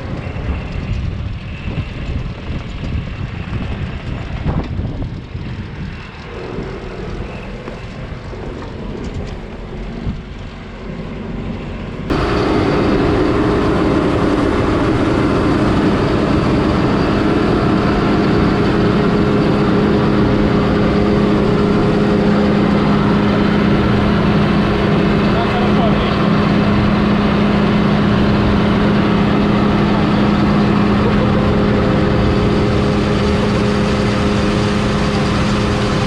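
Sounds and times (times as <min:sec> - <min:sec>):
heavy machinery engine droning: 0:00.0 - 0:36.0.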